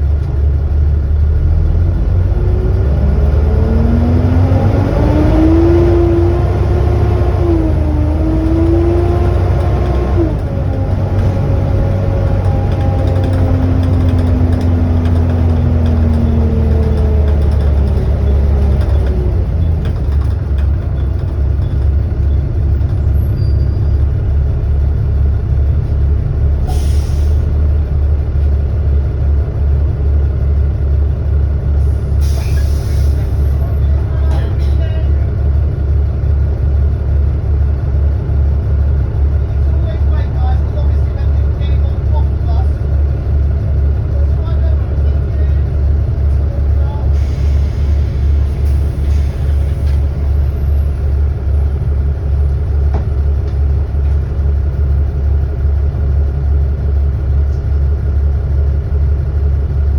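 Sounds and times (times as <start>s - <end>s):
bus diesel engine with whine: 0.0s - 59.9s.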